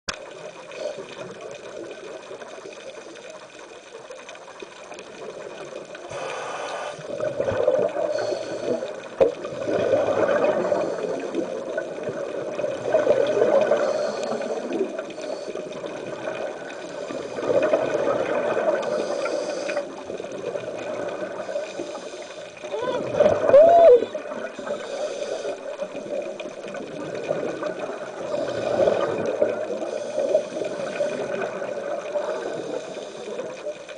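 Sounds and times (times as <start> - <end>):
underwater regulator bubbles gurgling: 0.1 - 33.9.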